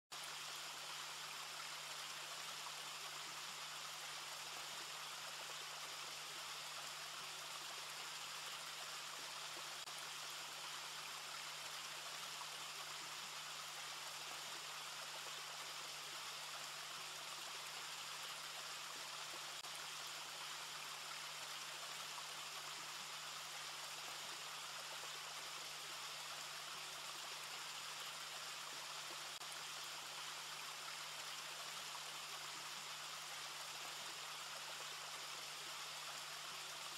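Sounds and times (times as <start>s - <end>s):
faint steady hiss: 0.1s - 36.9s.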